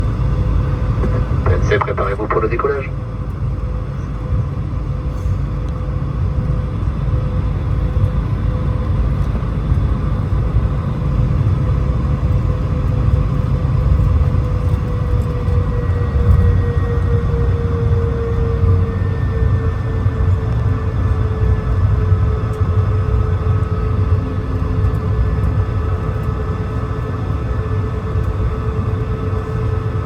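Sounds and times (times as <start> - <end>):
higher turbine whine: 0.0 - 30.0
jet engines rumbling and whining: 0.0 - 30.0.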